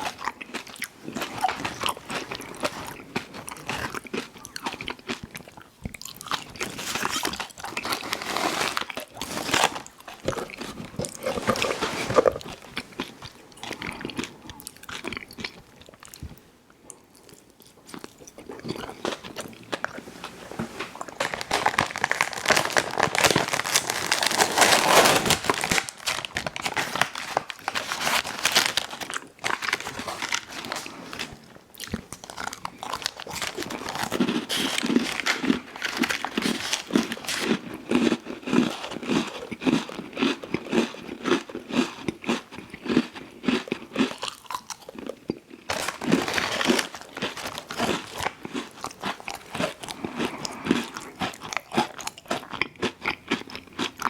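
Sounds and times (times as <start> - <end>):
rhythmic chewing: 0.0 - 24.6, 25.4 - 54.0.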